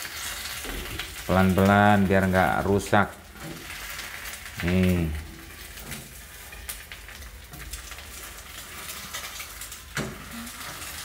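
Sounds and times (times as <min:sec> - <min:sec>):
crackles and clicks: 0:00.0 - 0:11.0
egg sizzling in hot oil: 0:00.0 - 0:11.0.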